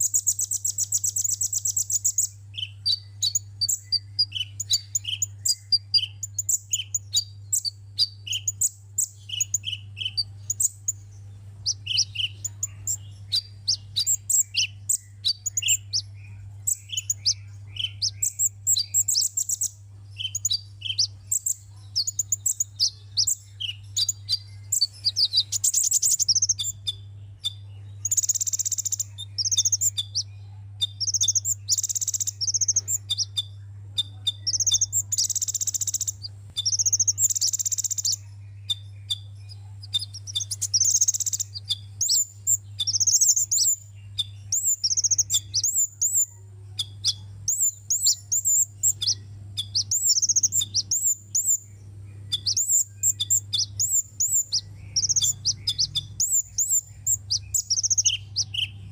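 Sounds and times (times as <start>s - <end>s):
bird chirping and trilling: 0.0s - 58.9s
steady low hum: 0.0s - 58.9s.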